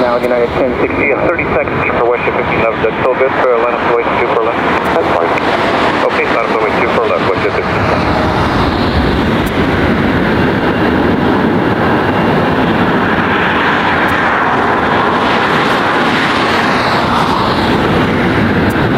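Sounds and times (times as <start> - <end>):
jet engines rumbling at takeoff: 0.0 - 18.9.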